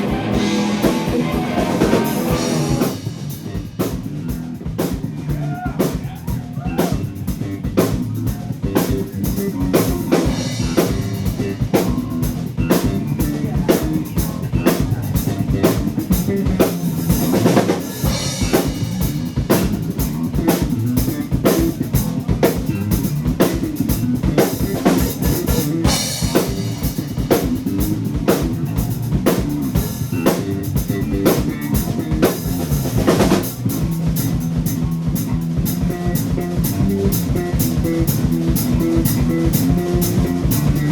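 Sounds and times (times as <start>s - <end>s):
live blues-rock band playing: 0.0s - 40.9s.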